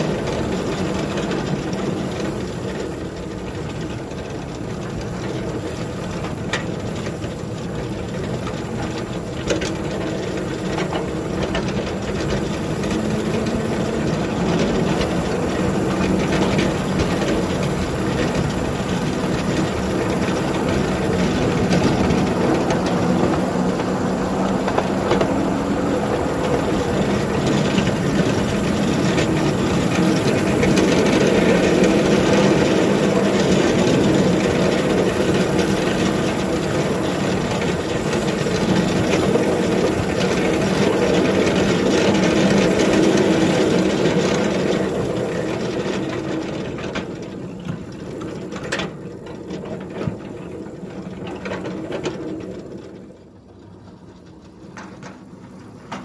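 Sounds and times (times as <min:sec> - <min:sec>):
miniature locomotive running on track: 0:00.0 - 0:56.0.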